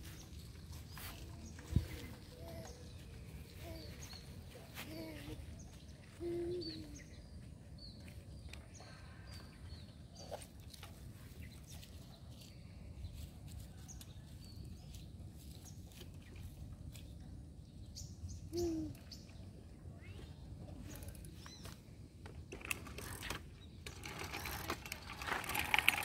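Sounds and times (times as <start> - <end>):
small birds chirping: 0.0 - 22.1.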